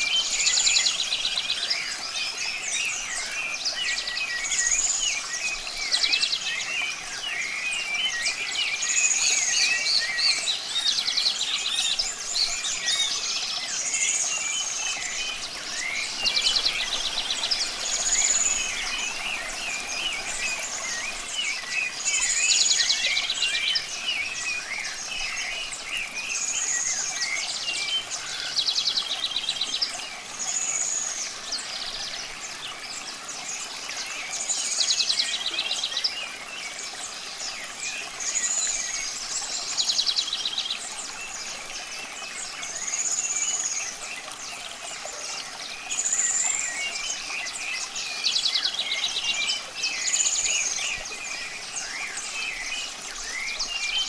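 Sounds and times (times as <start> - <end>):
birds chirping quietly: 0.0 - 54.0
running water hiss: 0.0 - 54.0.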